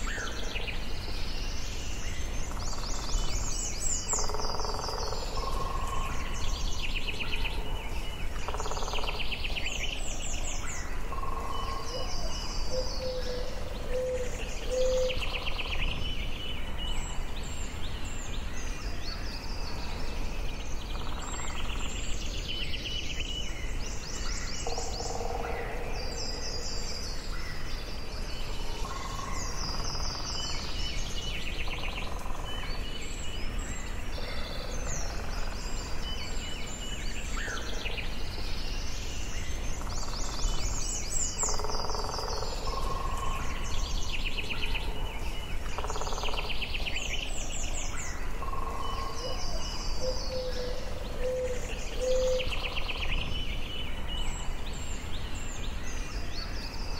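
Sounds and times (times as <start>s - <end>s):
birds singing and calling: 0.0s - 56.9s
low background noise: 0.0s - 56.9s.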